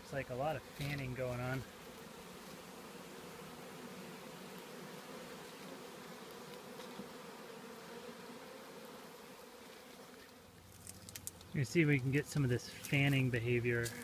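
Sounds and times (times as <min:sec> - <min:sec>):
bee swarm humming: 0:00.0 - 0:14.0.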